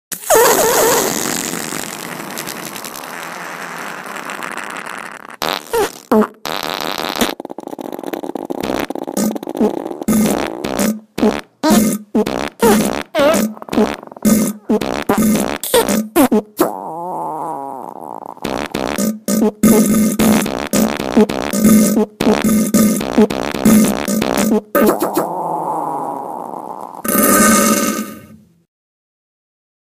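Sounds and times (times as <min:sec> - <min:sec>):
fart sounds: 0:00.1 - 0:28.4.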